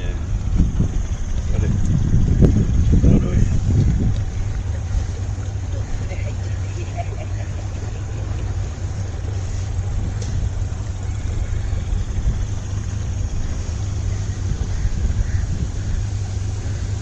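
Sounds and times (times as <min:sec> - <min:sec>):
boat engine humming: 0:00.0 - 0:17.0
rushing water: 0:00.0 - 0:17.0.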